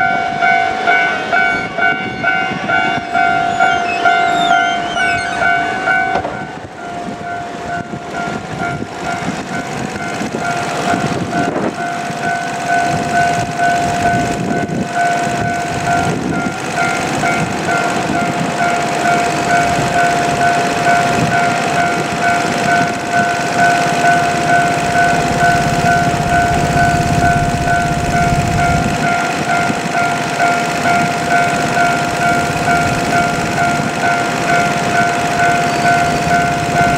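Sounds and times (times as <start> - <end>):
freight train rumbling past: 0.0 - 36.9
level crossing warning bell: 0.0 - 36.9.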